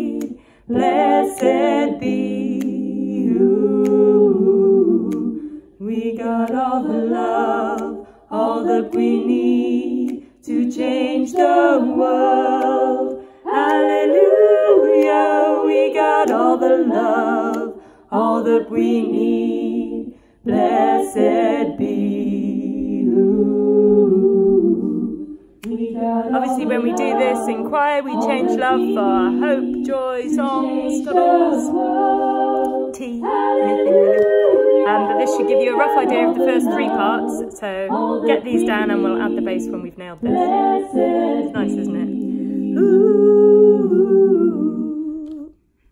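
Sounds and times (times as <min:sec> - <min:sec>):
women singing a cappella harmony: 0:00.0 - 0:45.9.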